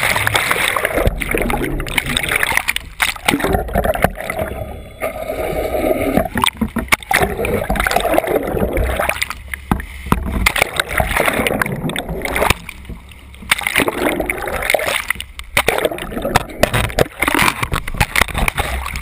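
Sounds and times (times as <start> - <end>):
low rumble: 0.0 - 19.0
muffled water rushing and gurgling: 0.0 - 19.0.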